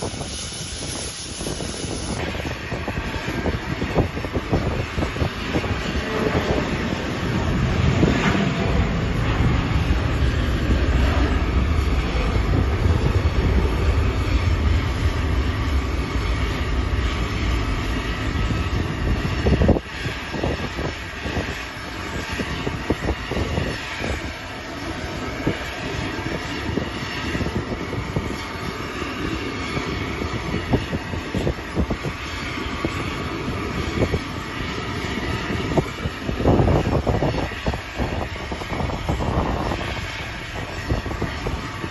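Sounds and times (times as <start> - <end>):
heavy low rumble: 0.0 - 41.9
jet engine running: 0.0 - 41.9.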